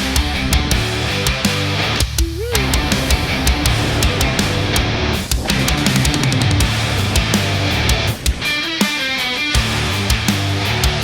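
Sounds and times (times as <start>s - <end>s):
heavy metal music: 0.0s - 11.0s.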